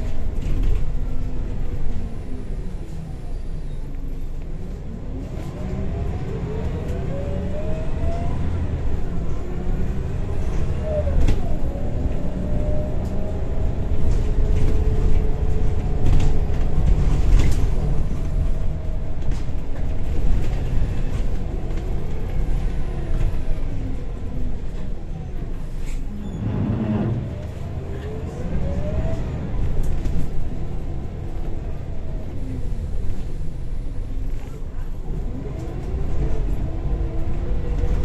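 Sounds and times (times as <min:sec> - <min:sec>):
bus engine and drivetrain rumble: 0:00.0 - 0:38.0.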